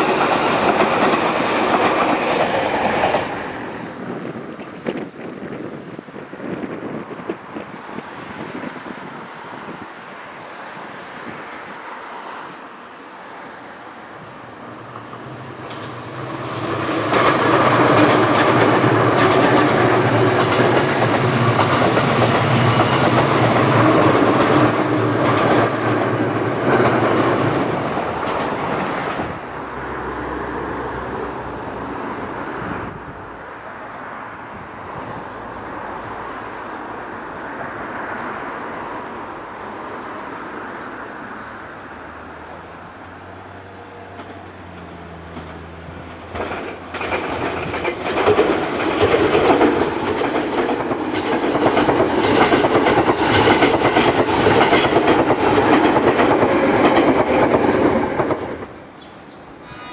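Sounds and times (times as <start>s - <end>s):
electric train passing at speed: 0.0s - 59.9s.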